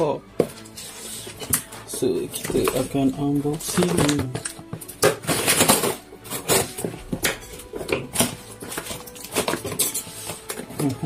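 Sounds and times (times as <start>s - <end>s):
cardboard scraping and crinkling: 0.5s - 11.0s.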